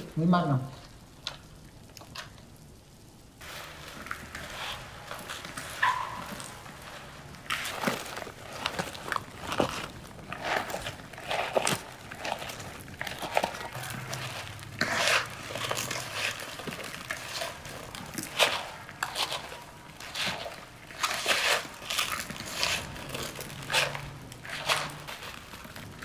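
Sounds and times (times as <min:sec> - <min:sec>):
crinkling and crunching handling: 0:00.0 - 0:26.0.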